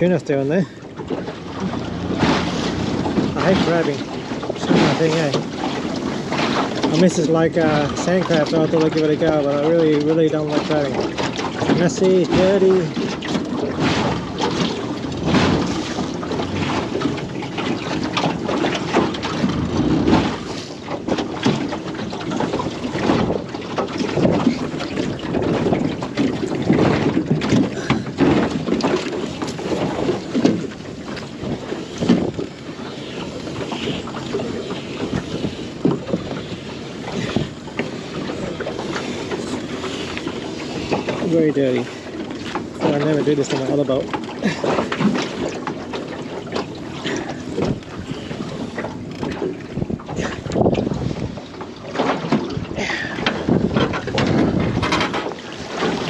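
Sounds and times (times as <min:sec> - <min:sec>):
wind on microphone: 0:00.0 - 0:10.0, 0:10.7 - 0:43.9, 0:46.4 - 0:56.0.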